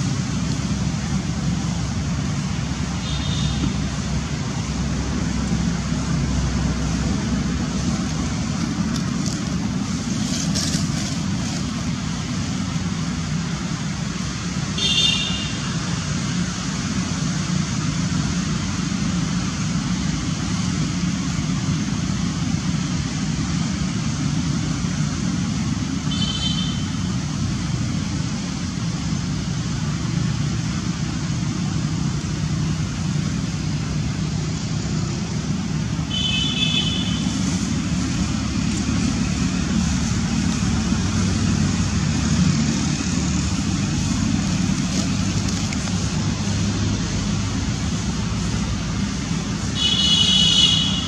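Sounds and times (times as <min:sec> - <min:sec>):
road traffic rumble: 0:00.0 - 0:51.0.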